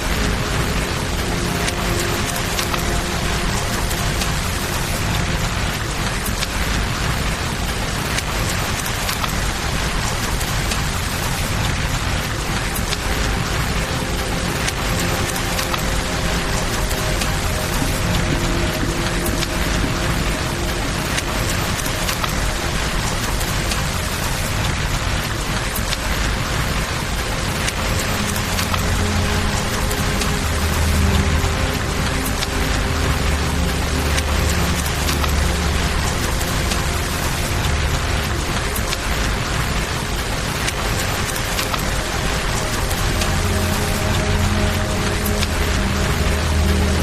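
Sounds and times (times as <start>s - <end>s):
campfire crackling and popping: 0.0s - 47.0s
river water rushing: 0.0s - 47.0s
steady rain hissing: 0.0s - 47.0s.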